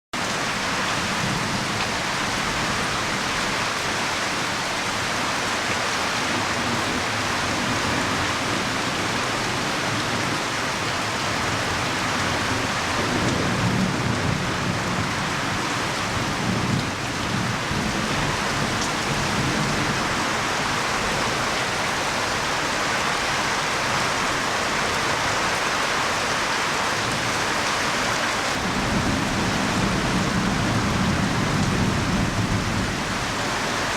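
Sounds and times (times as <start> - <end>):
heavy rain pouring: 0.2 - 33.9
strong wind: 0.4 - 33.9.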